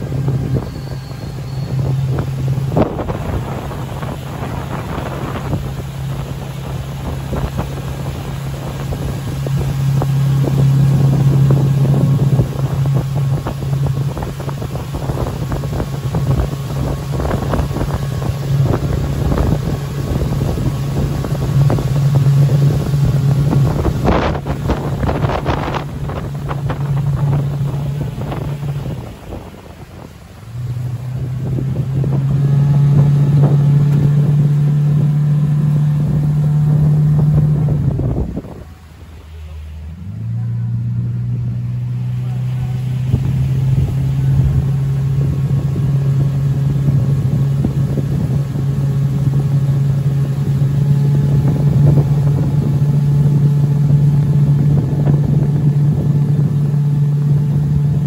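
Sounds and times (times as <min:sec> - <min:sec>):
wind buffeting microphone: 0:00.0 - 0:39.0, 0:41.2 - 0:58.0
motorboat engine humming: 0:00.0 - 0:58.0.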